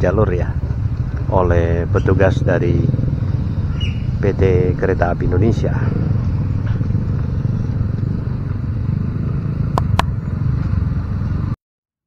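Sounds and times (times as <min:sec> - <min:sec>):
low rumble: 0:00.0 - 0:11.2
scooter engine running: 0:00.2 - 0:11.5.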